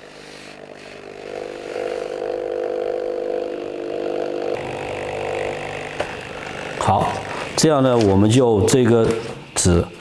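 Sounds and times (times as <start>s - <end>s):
stencil machine humming: 0.0s - 8.8s.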